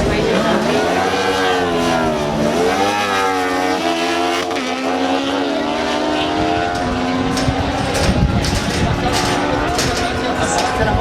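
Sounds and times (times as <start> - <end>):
motorcycle engines accelerating: 0.0 - 11.0.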